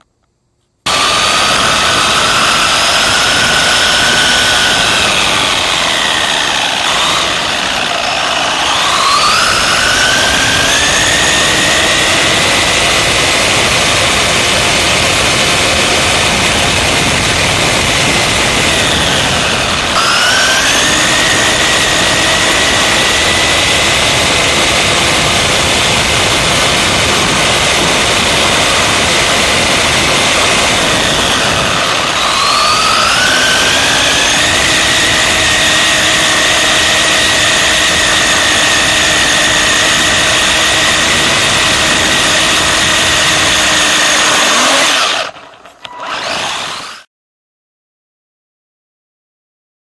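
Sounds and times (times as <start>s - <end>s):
electric motor whine: 0.9s - 47.1s.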